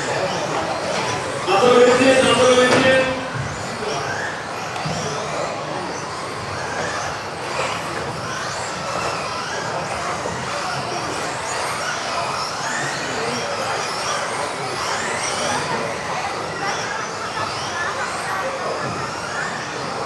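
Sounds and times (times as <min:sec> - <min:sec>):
rc car motors whining: 0:00.0 - 0:20.0.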